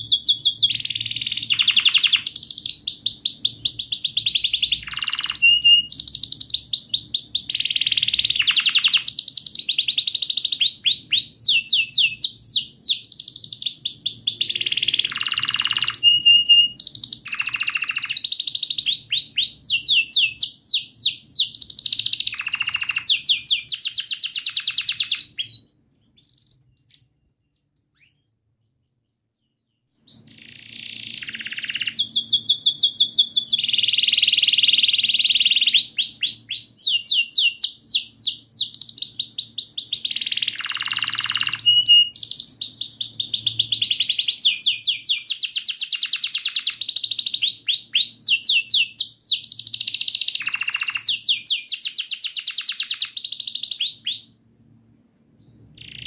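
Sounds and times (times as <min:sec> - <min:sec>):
canary singing trills: 0:00.0 - 0:54.4, 0:55.4 - 0:56.0.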